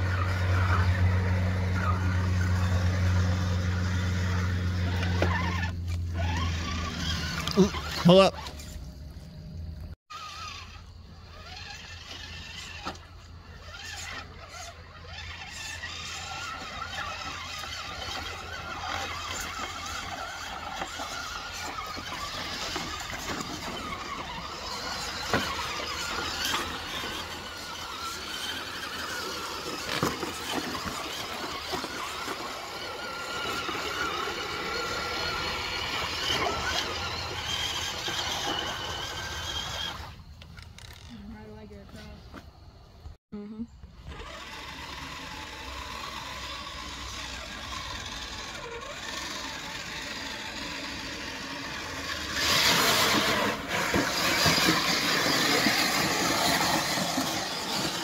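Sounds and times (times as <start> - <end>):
toy truck electric motor whining: 0.0 - 41.5, 43.9 - 58.0.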